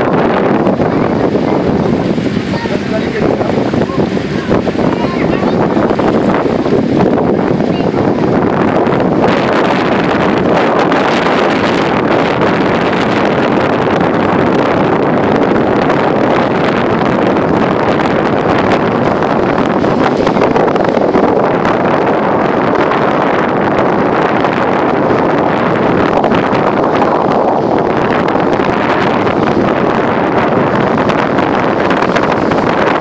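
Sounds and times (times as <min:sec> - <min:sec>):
boat engine: 0:00.0 - 0:33.0
water rushing: 0:00.0 - 0:33.0
wind buffeting microphone: 0:00.0 - 0:33.0.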